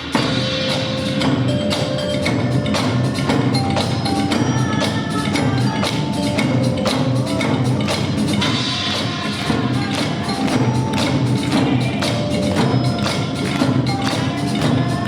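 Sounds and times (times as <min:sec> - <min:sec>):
ensemble drumming with sticks: 0:00.0 - 0:15.0.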